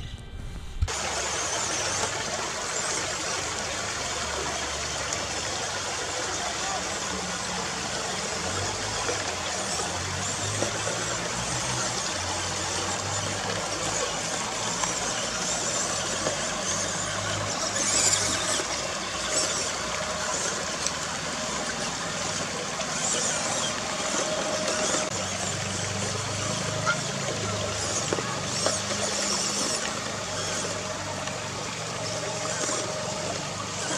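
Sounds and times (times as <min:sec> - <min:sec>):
creek rushing over rocks: 0:00.9 - 0:33.9
toy truck motor whirring: 0:00.9 - 0:33.9.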